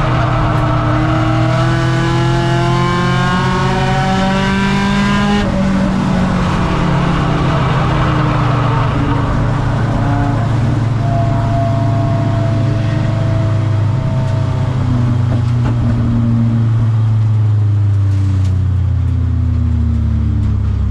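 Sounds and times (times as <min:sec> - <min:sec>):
race car engine: 0:00.0 - 0:20.9
road noise: 0:00.0 - 0:20.9.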